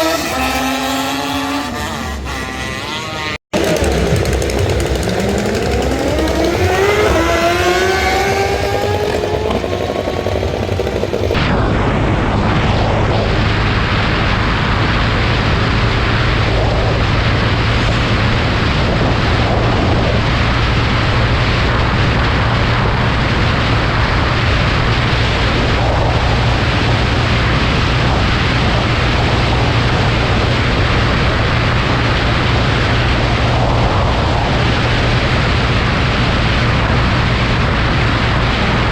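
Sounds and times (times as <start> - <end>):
low engine drone: 0.0 - 38.9
motorcycle engine revving: 0.0 - 38.9
loud steady rush of noise: 3.6 - 38.9.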